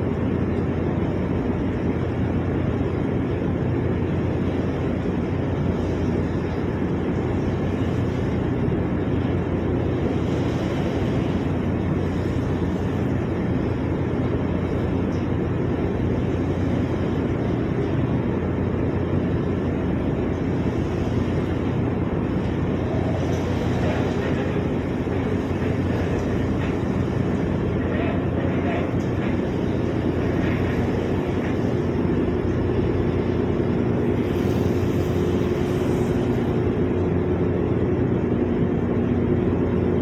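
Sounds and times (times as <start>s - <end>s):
ship engines droning: 0.0s - 40.0s.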